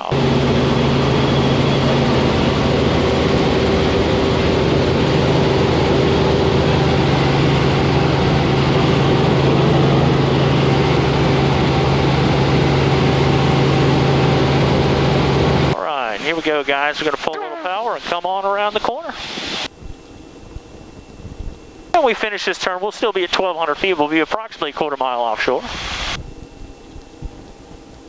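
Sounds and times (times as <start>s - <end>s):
helicopter engine and rotor hum: 0.0s - 28.0s.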